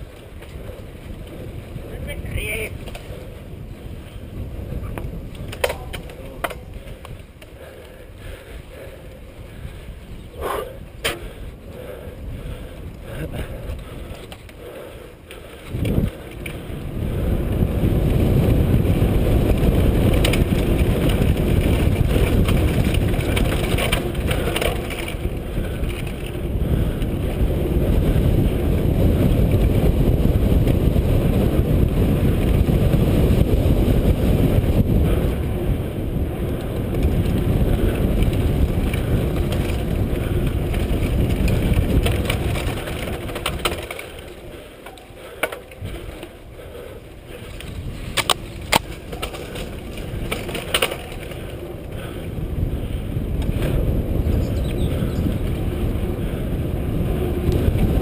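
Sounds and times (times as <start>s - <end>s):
bike clicks and rattles: 0.0s - 58.0s
wind buffeting microphone: 0.0s - 58.0s.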